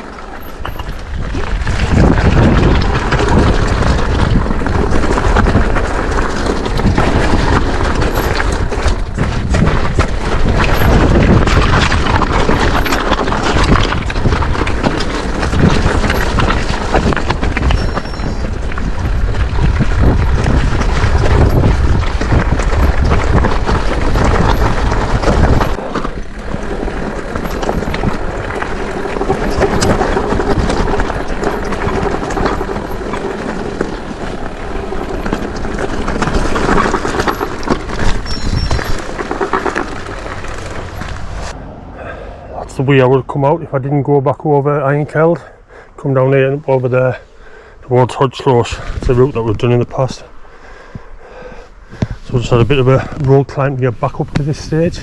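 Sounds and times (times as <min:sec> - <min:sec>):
bike tyre and frame noise: 0:00.0 - 0:42.9, 0:45.1 - 0:55.0
wind buffeting microphone: 0:00.0 - 0:43.6, 0:46.9 - 0:55.0.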